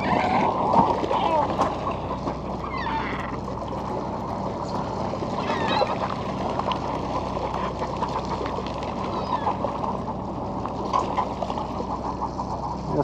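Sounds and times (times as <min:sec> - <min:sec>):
faint gull calls: 0:00.0 - 0:03.5, 0:04.6 - 0:13.0
boat engine drone: 0:00.0 - 0:13.0
water noise: 0:00.0 - 0:13.0.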